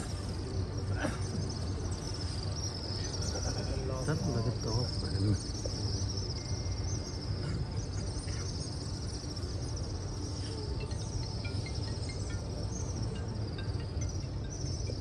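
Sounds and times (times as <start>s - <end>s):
insects chirring: 0.0s - 15.0s
low background rumble: 0.0s - 15.0s.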